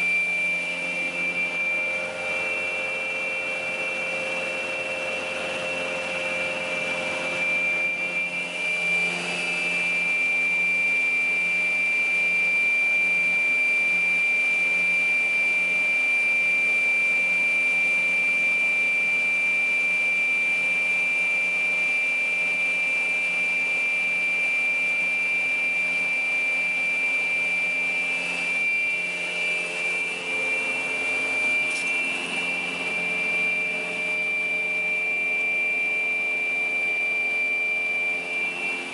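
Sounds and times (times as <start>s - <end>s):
saw running with high whine: 0.0s - 38.9s.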